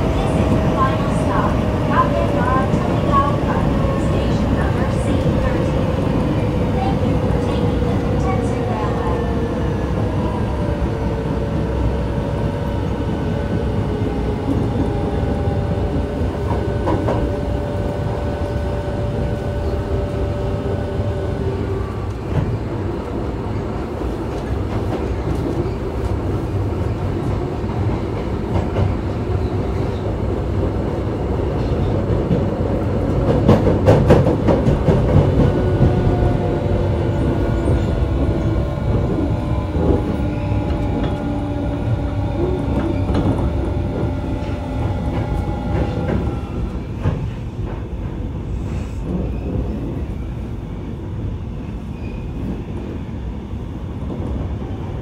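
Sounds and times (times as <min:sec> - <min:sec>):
rumble of wheels on rail: 0:00.0 - 0:55.0.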